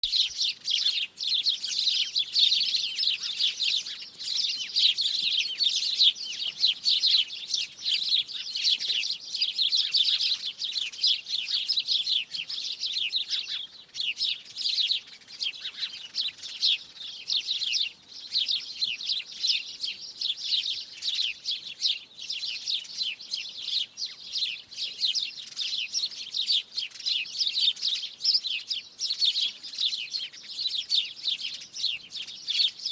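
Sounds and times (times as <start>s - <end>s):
flock of birds chirping: 0.0s - 32.9s.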